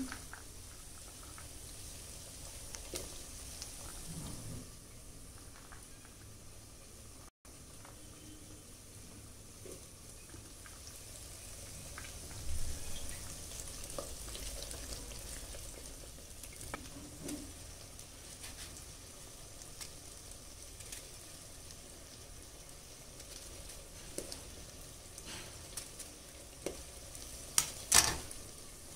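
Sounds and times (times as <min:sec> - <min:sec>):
onions and potatoes sizzling: 0:00.0 - 0:28.9.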